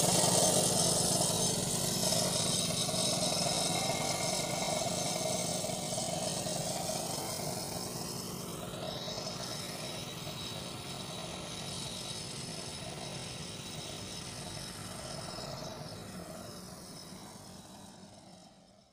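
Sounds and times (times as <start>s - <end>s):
engine drone: 0.0s - 18.9s
hiss: 0.0s - 18.9s.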